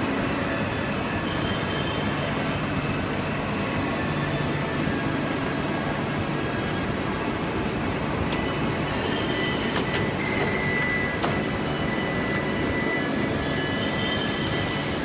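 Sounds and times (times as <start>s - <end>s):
industrial machinery hum: 0.0s - 15.0s
thin high whine: 0.0s - 15.0s.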